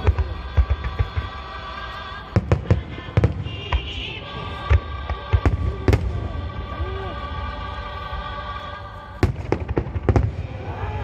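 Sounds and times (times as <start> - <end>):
music playing: 0.0 - 11.0.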